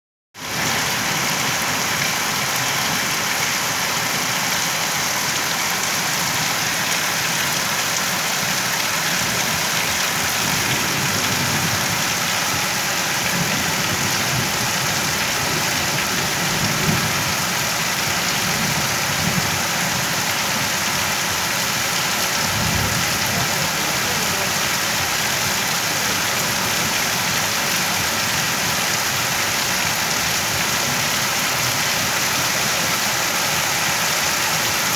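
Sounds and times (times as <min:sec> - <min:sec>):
steady rain falling: 0:00.4 - 0:34.9.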